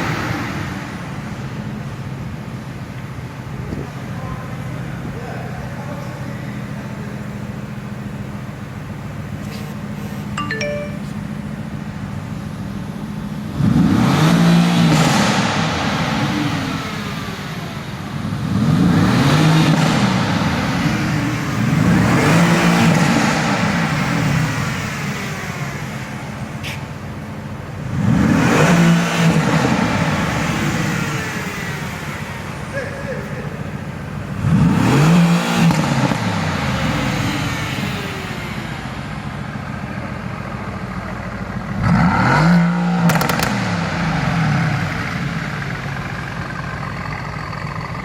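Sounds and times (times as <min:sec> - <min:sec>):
car engine idling and revving: 0:00.0 - 0:10.4, 0:11.2 - 0:48.0.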